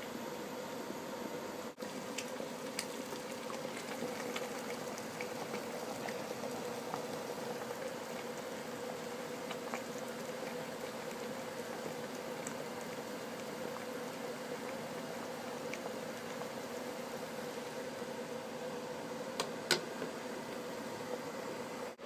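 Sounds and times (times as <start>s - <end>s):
steady hum: 0.0s - 22.0s
water boiling with bubbling pops: 1.8s - 21.9s.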